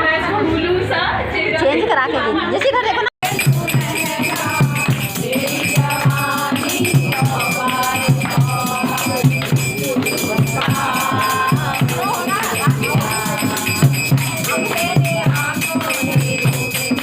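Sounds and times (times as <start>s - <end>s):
drum beat: 3.2s - 17.0s
jingling percussion: 3.2s - 17.0s
voices singing: 3.2s - 17.0s.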